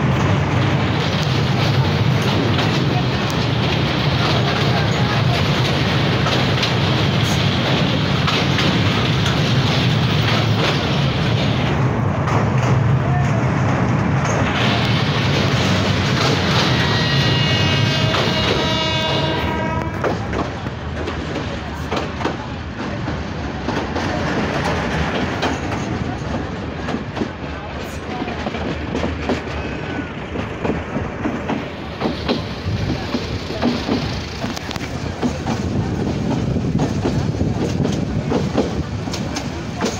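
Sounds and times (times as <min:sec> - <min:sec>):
train rumbling across bridge: 0:00.0 - 0:39.9
wheels clacking over rail joints: 0:00.0 - 0:39.9.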